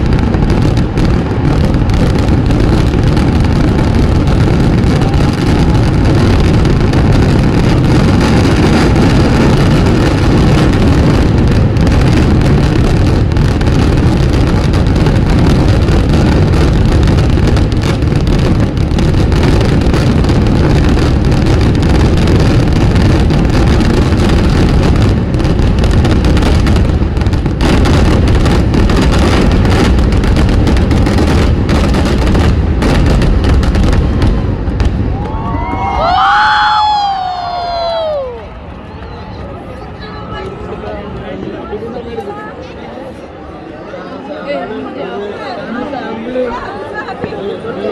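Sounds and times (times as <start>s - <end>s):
firecrackers roaring: 0.0s - 45.6s.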